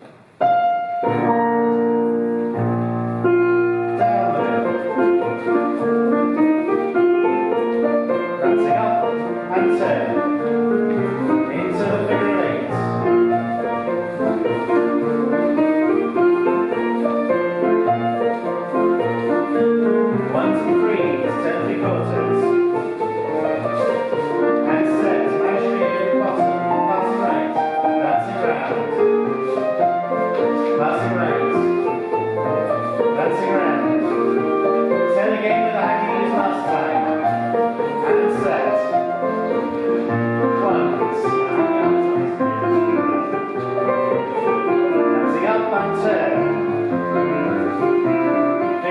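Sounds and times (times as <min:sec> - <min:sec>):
piano playing jig: 0:00.0 - 0:48.9.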